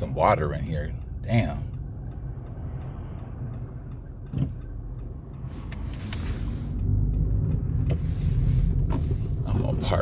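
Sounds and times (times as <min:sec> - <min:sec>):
faint ticking: 0:00.0 - 0:09.5
car cabin low rumble: 0:00.0 - 0:10.0.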